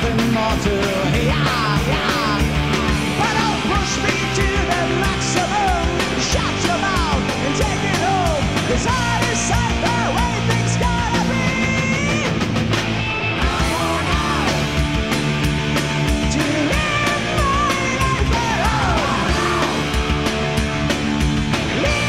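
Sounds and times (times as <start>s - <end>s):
distorted guitars: 0.0s - 22.0s
metal band playing: 0.0s - 22.0s
pounding drums: 0.0s - 22.0s.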